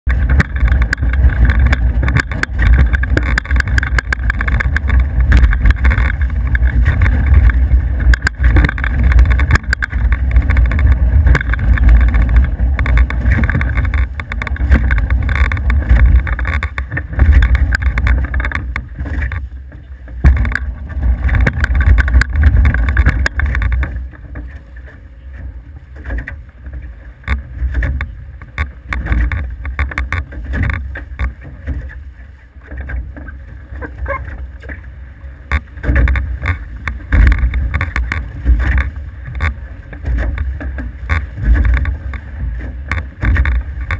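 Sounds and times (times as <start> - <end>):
water noise: 0.0 - 43.9
wind rumbling on microphone: 0.0 - 43.9.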